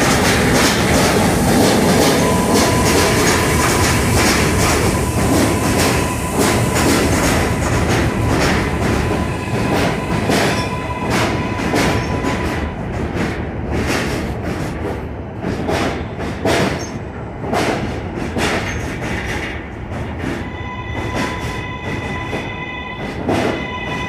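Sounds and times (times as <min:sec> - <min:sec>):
train low rumble: 0:00.0 - 0:24.0
train wheels clicking over rail joints: 0:00.0 - 0:24.0.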